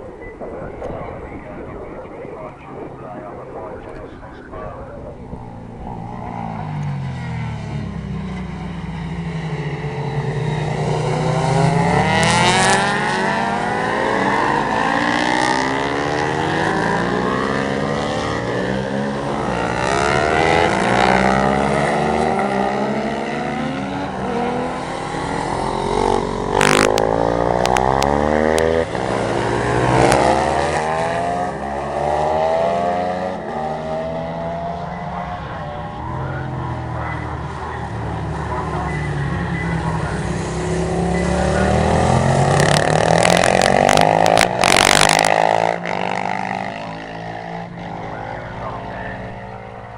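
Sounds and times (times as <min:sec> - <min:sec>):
racing motorcycles revving past: 0:05.4 - 0:49.9.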